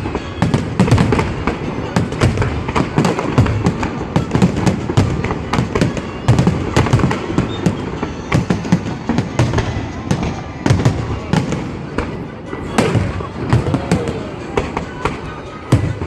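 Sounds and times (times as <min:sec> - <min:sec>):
deep fireworks booms: 0:00.0 - 0:16.0
fireworks bangs and crackles: 0:00.0 - 0:16.0.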